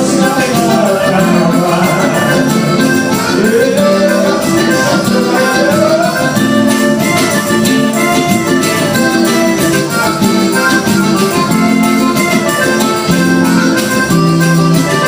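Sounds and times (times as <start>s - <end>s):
accordion: 0.0s - 15.0s
live folk band music: 0.0s - 15.0s.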